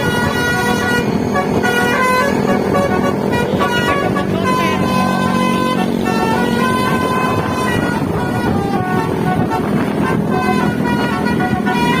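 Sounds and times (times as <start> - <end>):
low vehicle rumble: 0.0 - 12.0
multi-tone air horn tune: 0.0 - 12.0.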